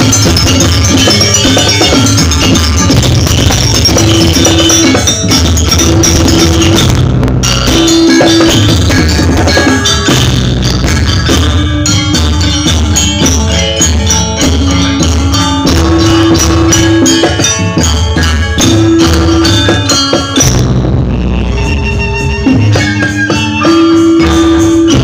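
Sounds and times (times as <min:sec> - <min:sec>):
drums: 0:00.0 - 0:25.0
metal mallet instruments: 0:00.0 - 0:25.0.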